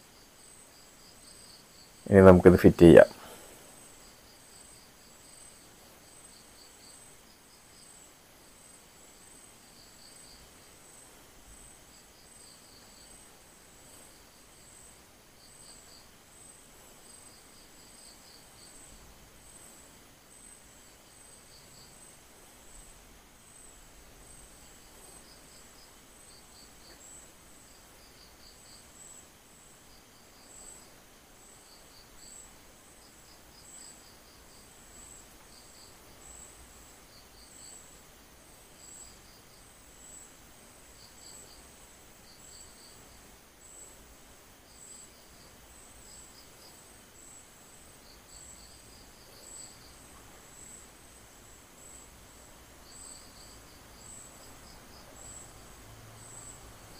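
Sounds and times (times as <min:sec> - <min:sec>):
lower pulsing insect chirp: 0:00.0 - 0:56.9.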